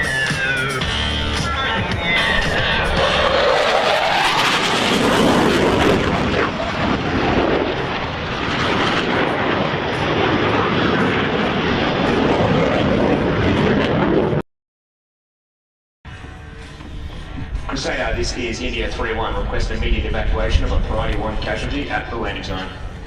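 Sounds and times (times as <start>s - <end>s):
jet fighter engines roaring: 0.0s - 14.4s, 16.3s - 23.0s.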